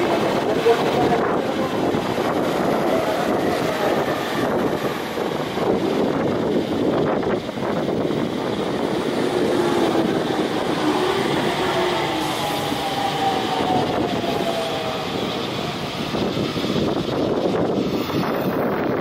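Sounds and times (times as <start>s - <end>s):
electric train passing: 0.0s - 19.0s
freight train moving: 0.0s - 19.0s.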